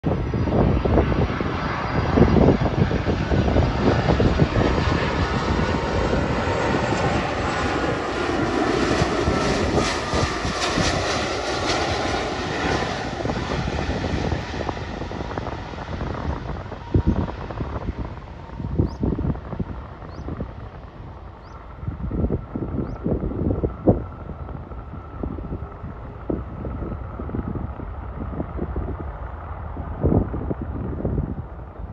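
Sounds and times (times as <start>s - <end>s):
jet engine roar: 0.0s - 31.9s
jet engine whine: 0.0s - 31.9s.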